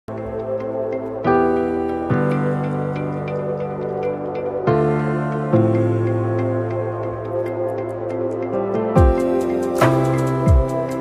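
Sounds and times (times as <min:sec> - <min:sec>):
soft sustained music chords: 0:00.1 - 0:11.0.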